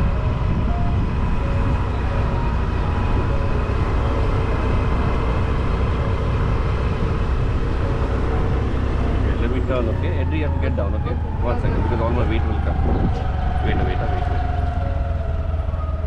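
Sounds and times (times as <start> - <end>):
road vehicle rumble: 0.0 - 16.0
wind on microphone: 0.0 - 16.0.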